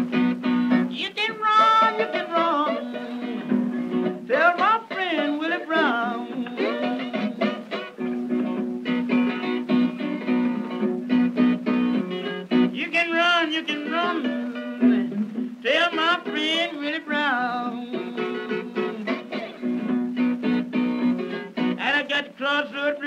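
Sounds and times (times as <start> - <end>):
plucked strings rhythm: 0.0 - 23.0.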